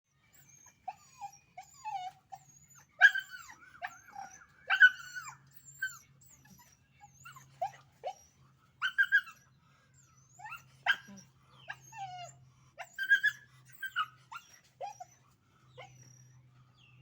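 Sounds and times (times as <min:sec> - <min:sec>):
puppies yipping and yelping: 0:00.3 - 0:09.4, 0:10.0 - 0:16.3.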